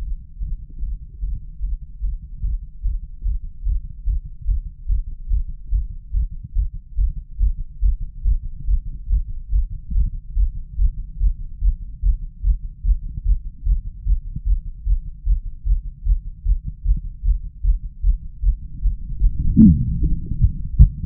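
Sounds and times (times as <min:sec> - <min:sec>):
heartbeat through stethoscope: 0:00.0 - 0:21.0.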